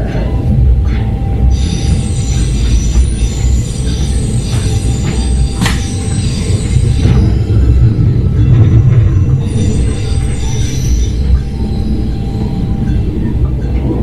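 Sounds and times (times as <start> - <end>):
railcar rumble: 0.0 - 14.0
high-pitched wheel squeal: 1.5 - 13.1.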